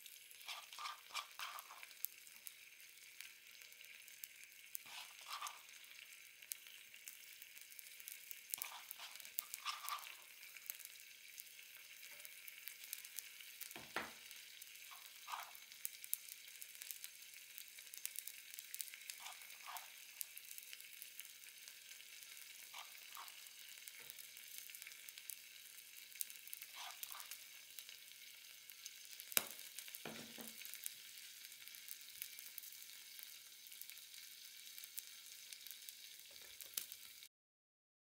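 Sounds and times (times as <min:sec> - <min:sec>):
food sizzling in a pan: 0:00.0 - 0:37.3.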